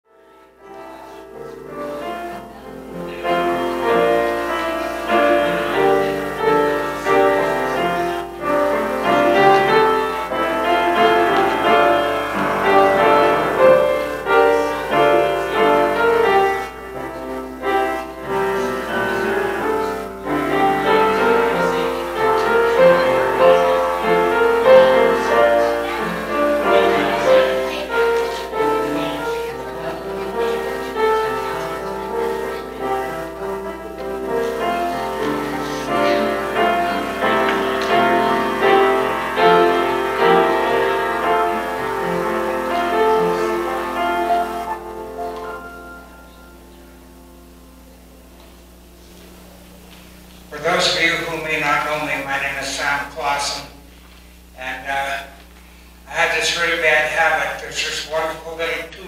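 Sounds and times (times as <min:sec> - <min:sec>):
slow keyboard music: 0:00.1 - 0:52.5
faint low hum: 0:00.2 - 0:59.0.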